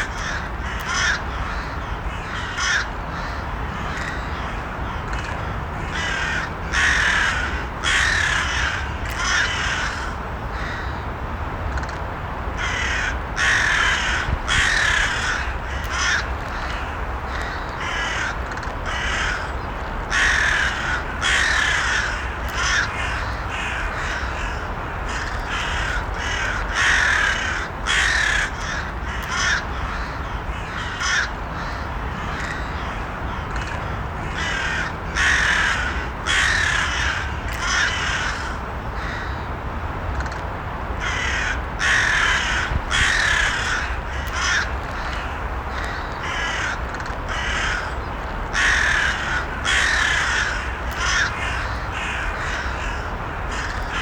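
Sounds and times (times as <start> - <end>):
crows cawing: 0.0 - 11.0, 12.6 - 39.5, 41.0 - 54.0.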